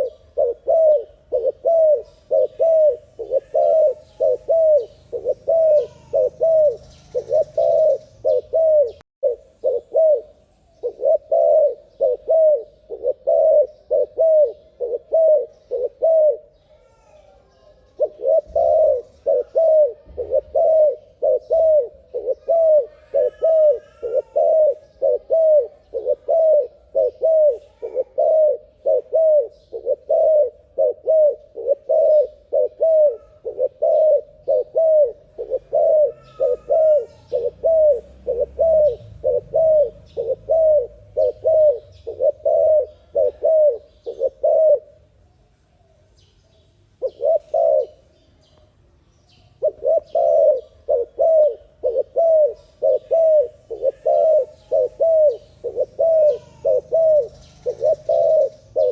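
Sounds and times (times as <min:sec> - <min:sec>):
dove cooing: 0:00.0 - 0:45.1, 0:47.0 - 0:48.2, 0:49.6 - 0:58.9.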